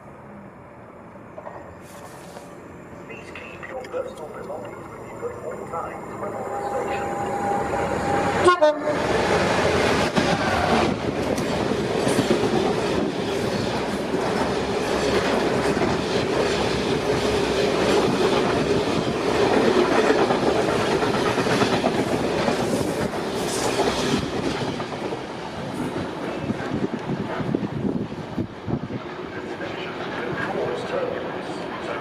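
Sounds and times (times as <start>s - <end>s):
train wagons rolling past: 0.0s - 32.0s.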